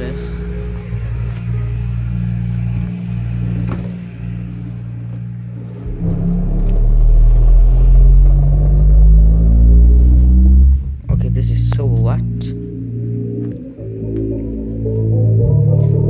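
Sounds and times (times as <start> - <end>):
deep bass rumble from subwoofer: 0.0 - 16.0.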